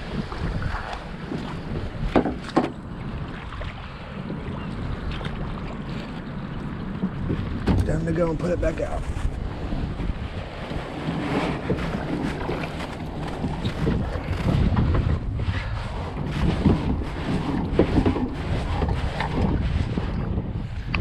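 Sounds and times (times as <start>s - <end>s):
kayak knocking and scraping: 0.0s - 21.0s
wind buffeting microphone: 0.0s - 21.0s.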